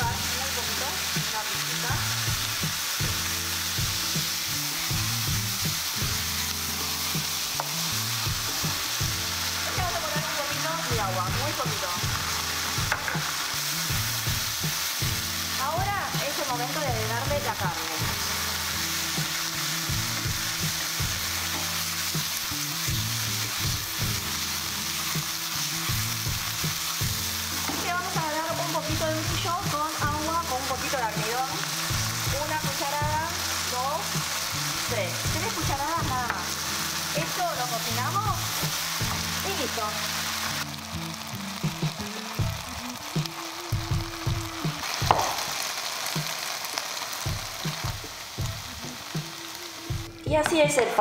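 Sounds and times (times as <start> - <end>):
soft background music: 0.0 - 51.0
vegetables sizzling in a wok: 0.0 - 51.0.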